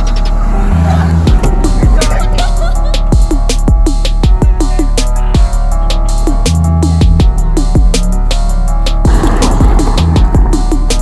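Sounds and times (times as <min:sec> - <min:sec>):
drum and bass music: 0:00.0 - 0:11.0.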